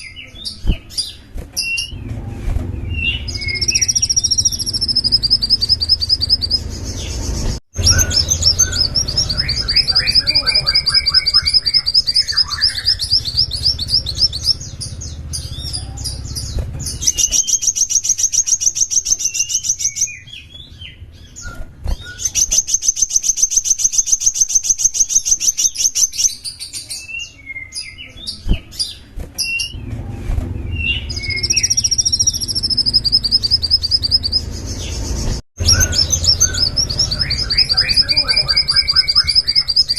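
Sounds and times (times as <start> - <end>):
songbird singing trills: 2.8 - 29.8, 30.6 - 39.9.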